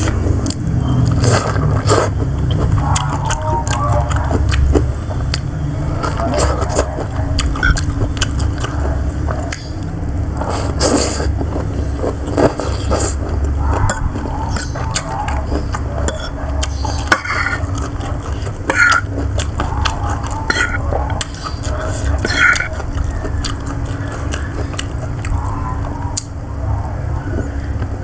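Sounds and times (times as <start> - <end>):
chewing: 0.0 - 28.0
steady low rumble: 0.0 - 28.0.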